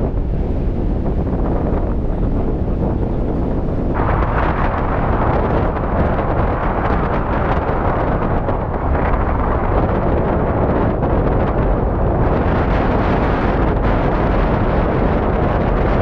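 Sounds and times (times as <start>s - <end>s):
rushing wind noise: 0.0s - 16.0s.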